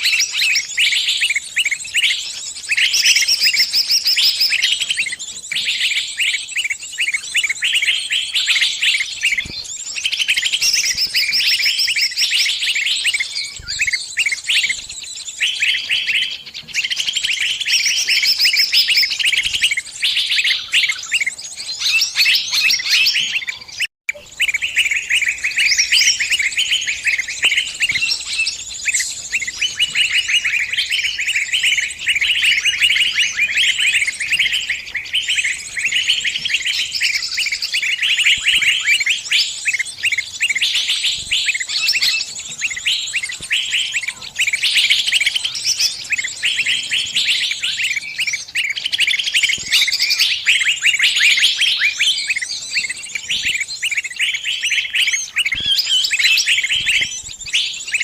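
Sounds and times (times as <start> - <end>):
small birds chirping rapidly: 0.0 - 58.0.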